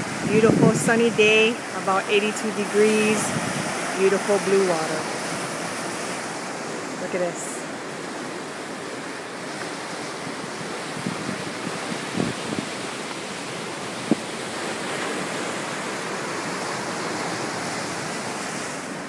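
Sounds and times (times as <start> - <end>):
waves breaking on rocks: 0.0 - 19.0.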